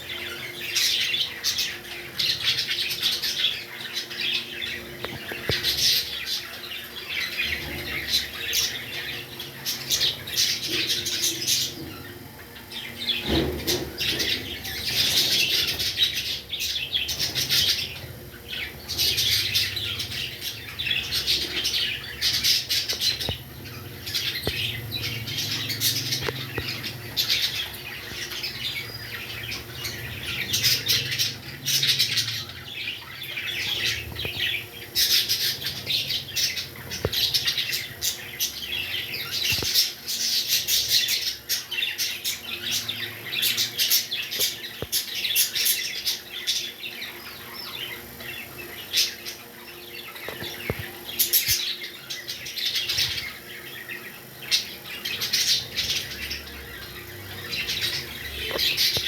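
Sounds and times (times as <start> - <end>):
parrots chattering and chirping: 0.0 - 59.0.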